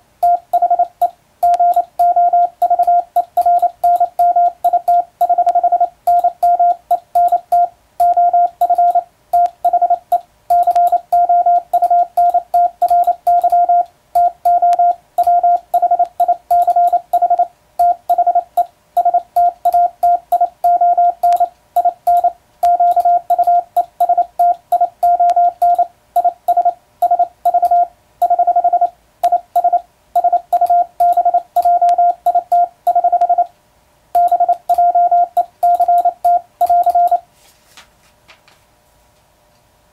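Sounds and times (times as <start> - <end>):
morse code beeps: 0.2 - 33.5, 34.2 - 37.2.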